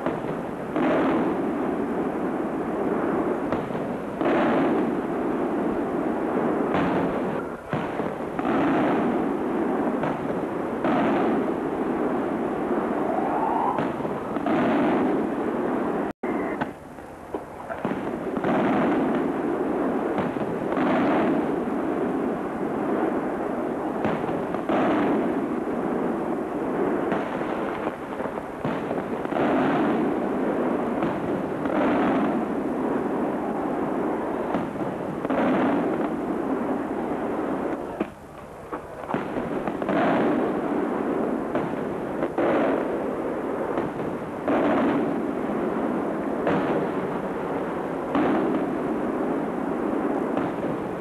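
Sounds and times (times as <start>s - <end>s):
firework crackle and rumble: 0.0s - 51.0s.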